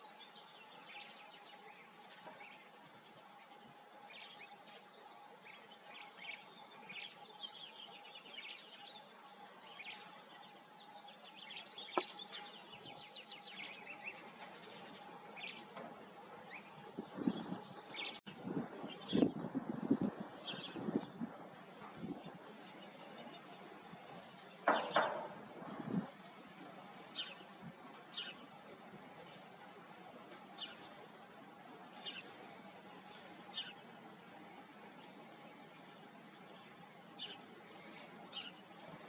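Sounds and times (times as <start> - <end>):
faint steady hum: 0.0 - 39.0
small birds chirping: 0.0 - 39.0.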